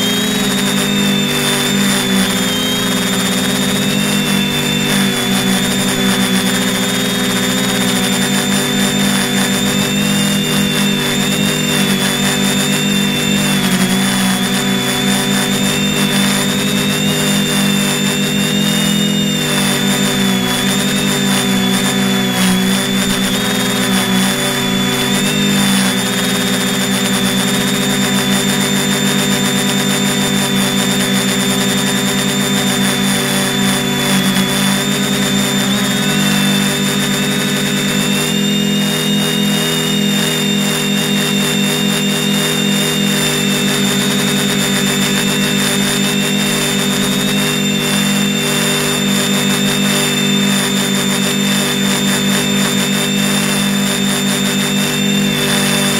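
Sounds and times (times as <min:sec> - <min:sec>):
drone motors humming: 0:00.0 - 0:55.9
high propeller whine: 0:00.0 - 0:55.9.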